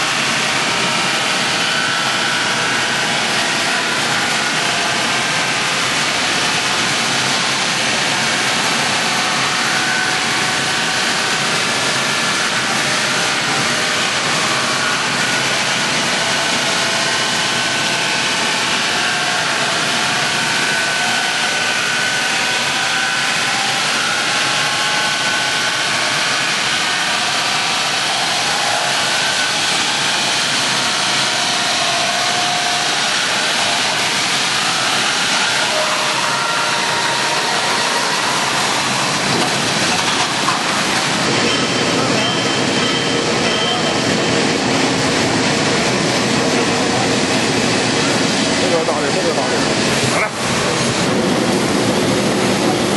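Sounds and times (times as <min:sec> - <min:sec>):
wood crusher grinding logs: 0:00.0 - 0:52.9.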